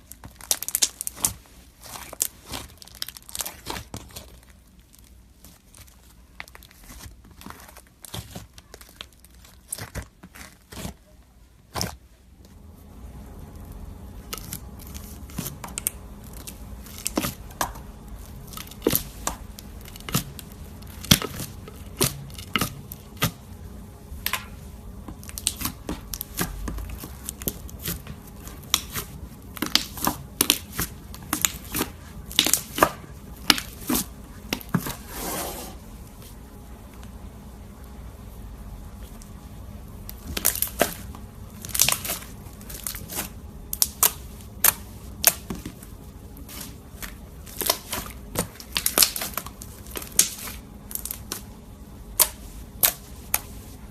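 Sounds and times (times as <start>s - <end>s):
slime crackling and popping: 0.0s - 11.1s, 13.4s - 34.8s, 40.0s - 53.6s
faint steady hum: 0.0s - 53.9s.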